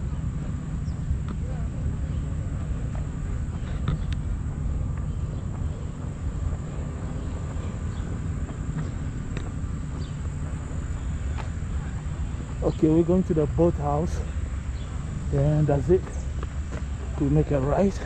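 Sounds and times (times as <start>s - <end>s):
insects buzzing: 0.0s - 18.0s
low rumble: 0.0s - 18.0s.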